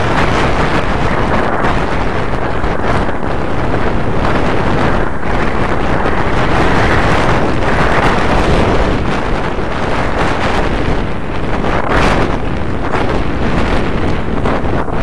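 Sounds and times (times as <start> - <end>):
skate wheels rolling on asphalt: 0.0 - 15.0
wind buffeting microphone: 0.0 - 15.0.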